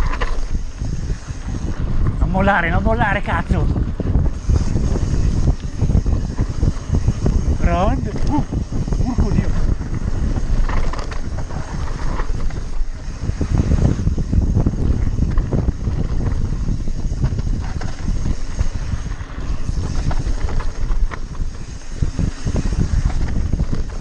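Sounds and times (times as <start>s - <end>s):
mountain bike rattling and knocking: 0.0s - 24.0s
wind buffeting microphone: 0.0s - 24.0s.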